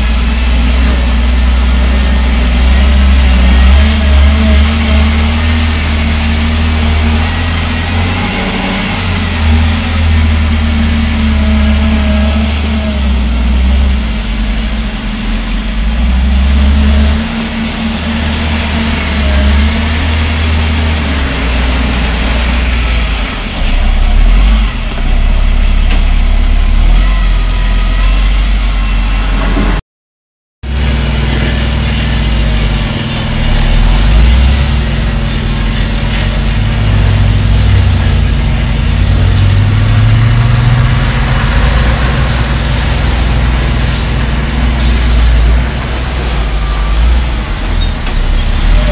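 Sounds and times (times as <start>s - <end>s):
diesel engine revving: 0.0s - 29.8s, 30.6s - 48.9s.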